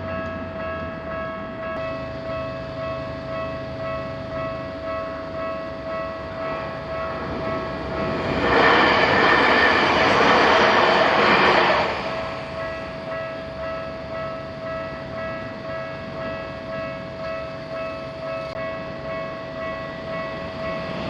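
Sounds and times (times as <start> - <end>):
passing train: 0.0 - 21.0.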